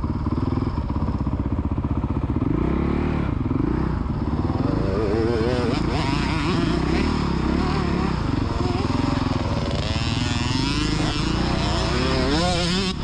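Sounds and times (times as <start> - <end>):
dirt bike engine revving: 2.2 - 13.0.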